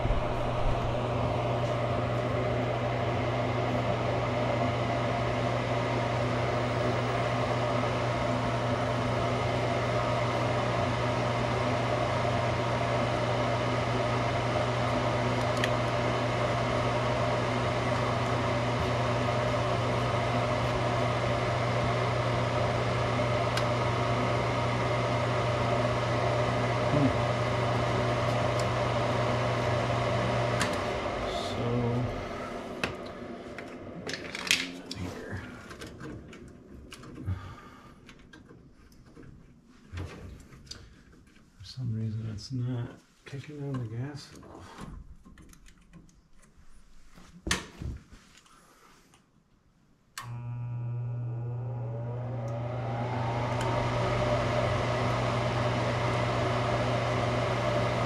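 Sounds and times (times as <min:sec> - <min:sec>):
furnace motor humming: 0:00.0 - 0:47.8, 0:50.1 - 0:58.0.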